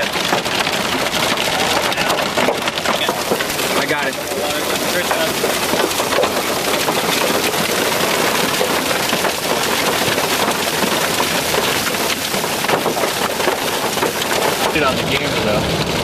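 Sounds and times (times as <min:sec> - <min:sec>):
hailstones clattering: 0:00.0 - 0:16.0
rush of heavy precipitation: 0:00.0 - 0:16.0.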